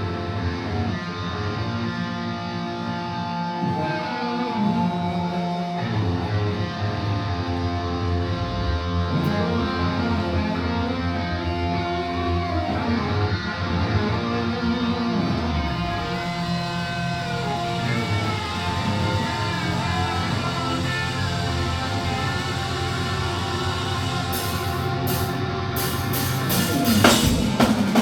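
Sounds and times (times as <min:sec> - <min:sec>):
electric guitars: 0:00.0 - 0:28.0
live hard rock band: 0:00.0 - 0:28.0.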